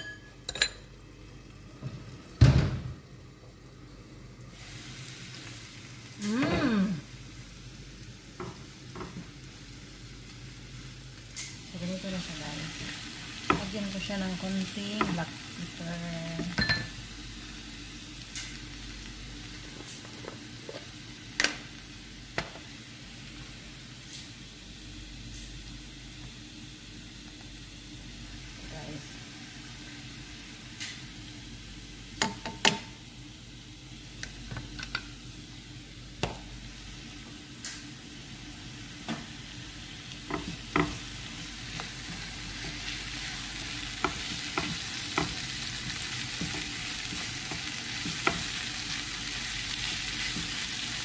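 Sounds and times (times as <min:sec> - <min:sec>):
vegetables sizzling in a pan: 0:03.0 - 0:51.0.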